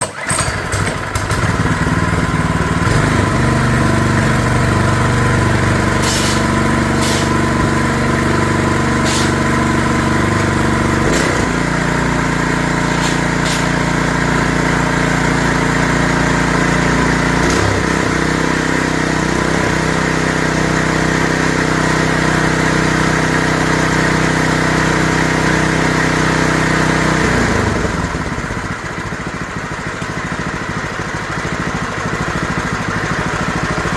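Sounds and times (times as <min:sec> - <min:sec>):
small gasoline engine running: 0:00.0 - 0:33.9.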